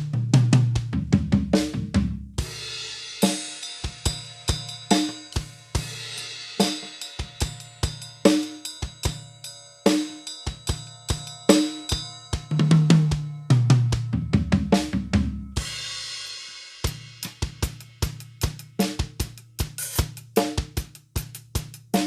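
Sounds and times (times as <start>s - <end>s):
drum kit playing: 0.0s - 22.0s.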